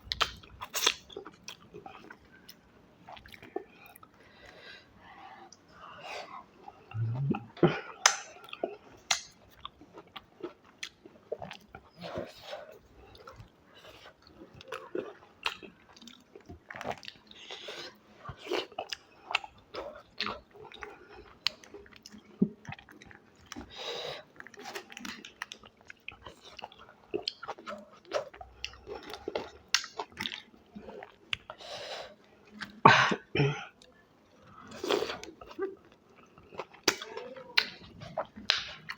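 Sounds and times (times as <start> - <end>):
person chewing and crunching: 0.0 - 4.6, 6.9 - 23.8, 24.4 - 31.6, 34.5 - 38.9.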